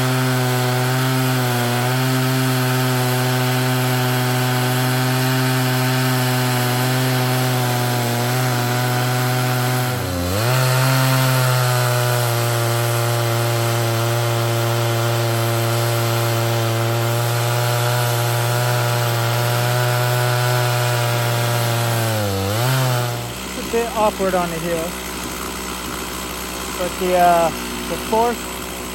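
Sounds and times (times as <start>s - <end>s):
chainsaw cutting a log: 0.0s - 28.9s.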